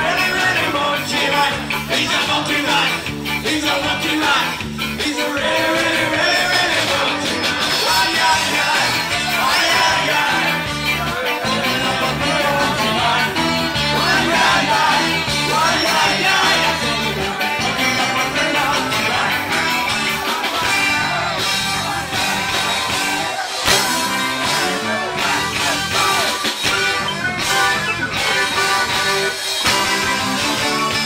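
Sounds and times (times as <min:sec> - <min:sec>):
ska band playing: 0:00.0 - 0:31.0
saxophones and trumpet: 0:05.0 - 0:31.0.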